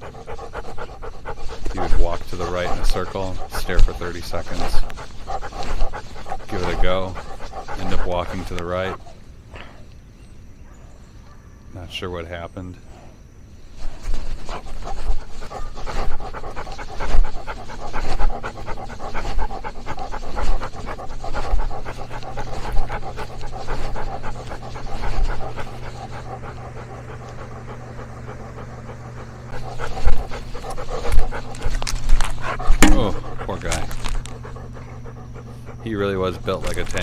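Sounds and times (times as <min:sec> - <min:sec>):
dog panting: 0:00.0 - 0:09.8, 0:13.7 - 0:37.0.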